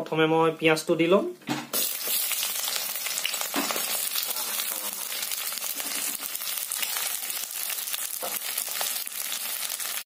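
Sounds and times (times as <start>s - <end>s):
onions sizzling in oil: 1.8s - 10.0s.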